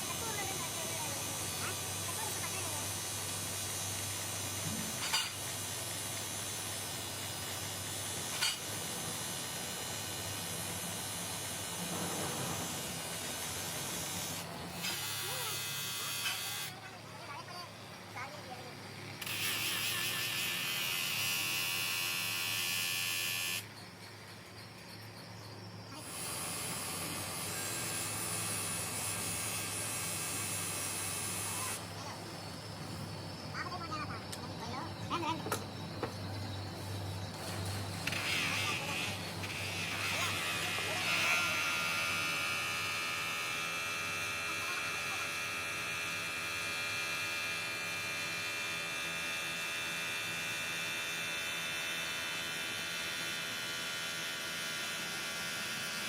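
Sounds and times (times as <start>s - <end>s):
electric motor whining: 0.0s - 16.8s, 19.1s - 23.7s, 26.0s - 56.0s
workshop machine running: 0.0s - 56.0s.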